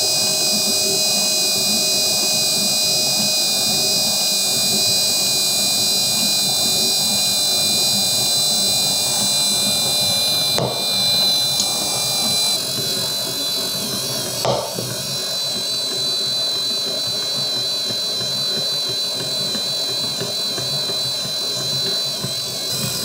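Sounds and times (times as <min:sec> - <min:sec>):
stand mixer motor whining: 0:00.0 - 0:23.0.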